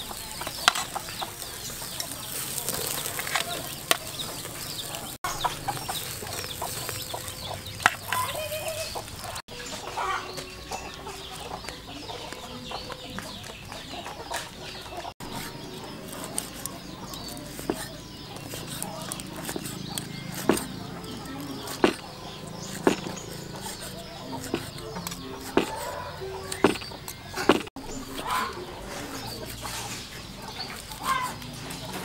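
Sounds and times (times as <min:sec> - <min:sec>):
chickens clucking: 0:00.0 - 0:32.0
small birds chirping: 0:00.0 - 0:32.0.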